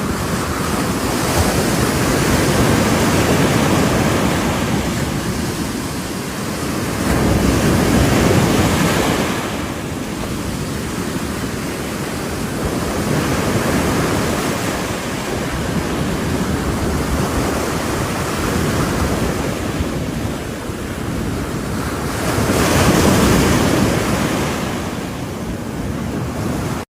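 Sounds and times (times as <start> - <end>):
ocean waves breaking: 0.0 - 26.8
wind buffeting microphone: 0.0 - 26.8.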